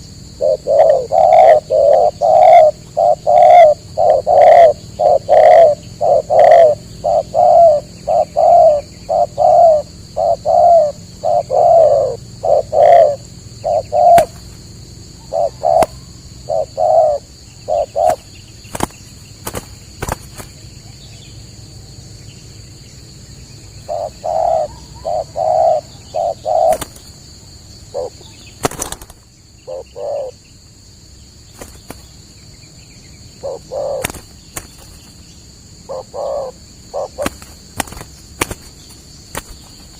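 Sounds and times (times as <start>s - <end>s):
doves cooing: 0.0s - 21.3s, 23.7s - 30.4s, 33.2s - 39.9s.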